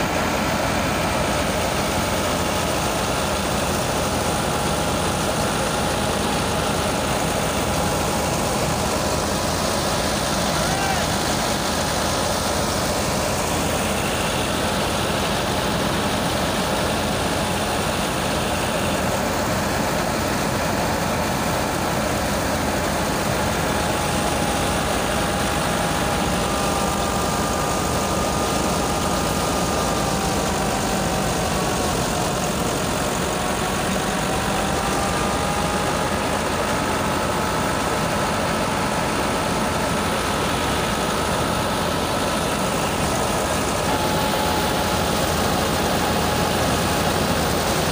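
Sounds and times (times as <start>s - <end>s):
threshing machine running: 0.0s - 47.9s.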